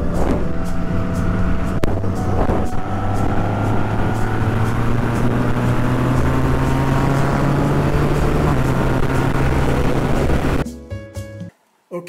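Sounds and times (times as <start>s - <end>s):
motorcycle engine cruising: 0.0s - 10.6s.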